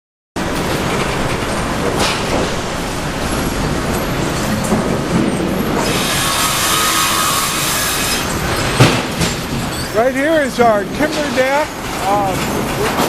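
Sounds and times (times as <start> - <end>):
sawmill machinery running: 0.4 - 13.0.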